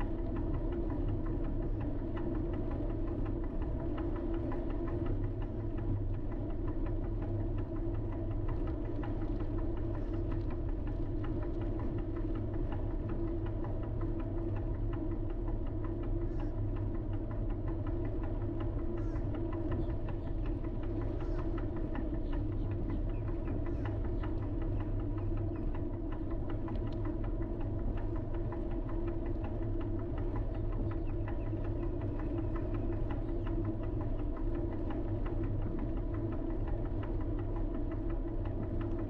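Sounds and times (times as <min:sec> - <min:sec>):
fast faint ticking: 0:00.0 - 0:39.0.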